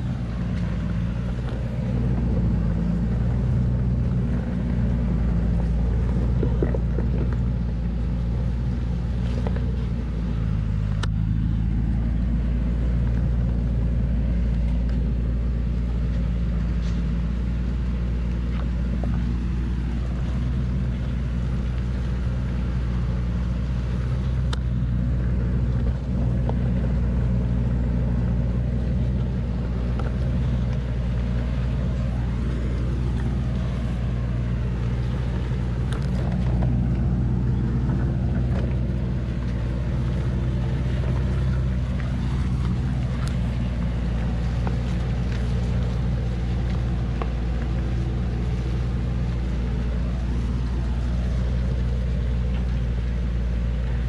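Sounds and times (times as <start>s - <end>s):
truck engine low drone: 0.0s - 54.0s.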